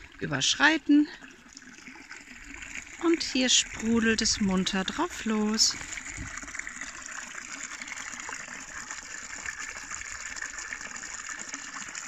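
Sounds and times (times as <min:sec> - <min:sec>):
brook bubbling over stones: 0:00.0 - 0:12.0.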